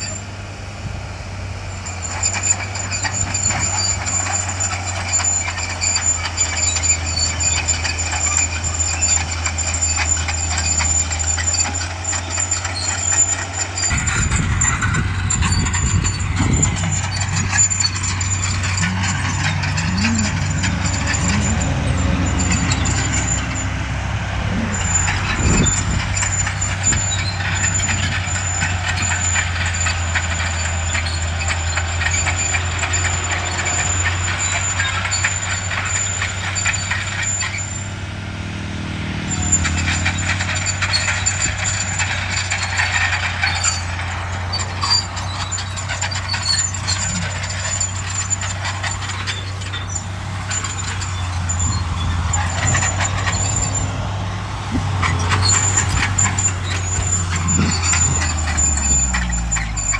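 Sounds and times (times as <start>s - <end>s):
diesel engine drone: 0.0s - 59.9s
machinery clanking: 0.0s - 59.9s.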